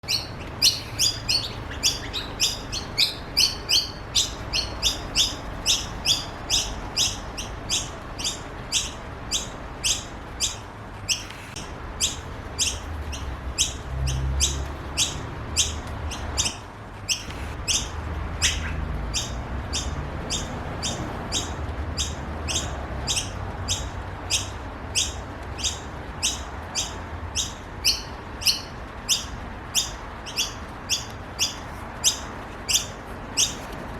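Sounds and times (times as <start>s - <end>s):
bird chicks begging calls: 0.0s - 33.7s.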